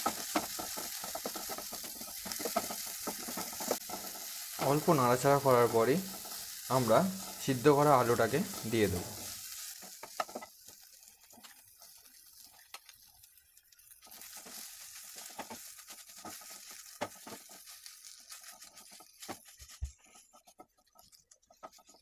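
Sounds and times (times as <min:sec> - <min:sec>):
wooden spatula scraping a pan: 0:00.0 - 0:12.7, 0:14.0 - 0:22.0
faint sizzling in frying pan: 0:00.0 - 0:22.0.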